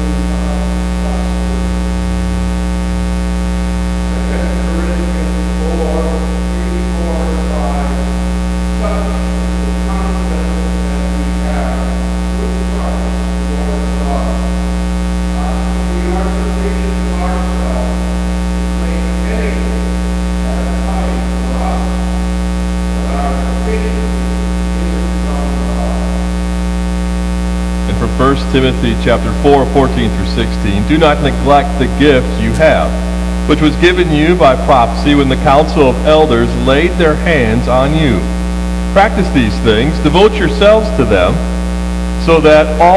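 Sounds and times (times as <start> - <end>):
electrical mains hum: 0.0 - 42.9.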